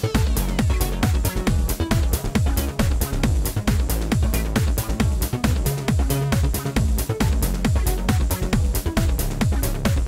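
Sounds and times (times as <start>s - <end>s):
electronic dance music: 0.0s - 10.0s
kick drum beat: 0.0s - 10.0s.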